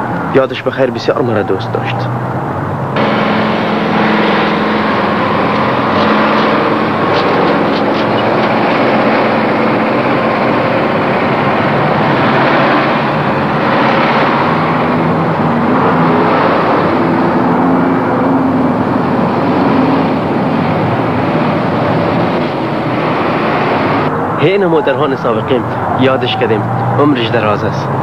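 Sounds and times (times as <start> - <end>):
trolleybus running: 0.0 - 28.0.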